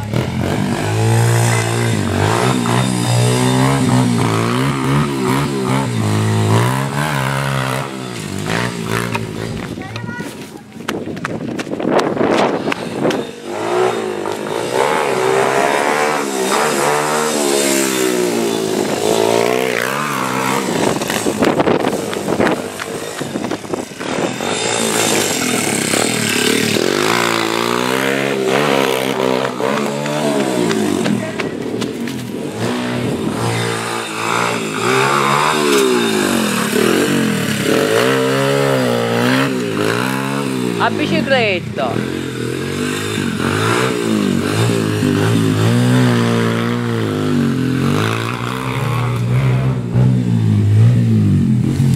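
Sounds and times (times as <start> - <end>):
motorbike engine revving: 0.0 - 10.4, 11.5 - 51.9.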